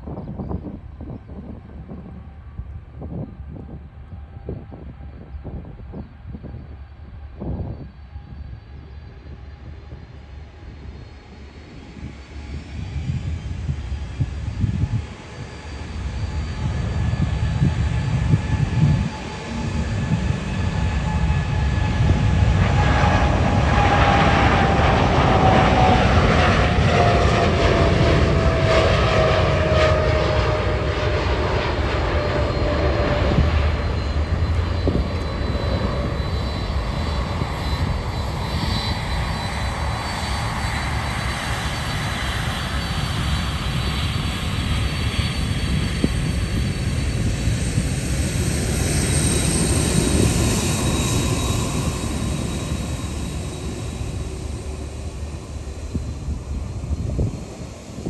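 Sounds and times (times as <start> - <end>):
jet engine whine: 0.0 - 58.0
jet engines roaring: 0.0 - 58.0.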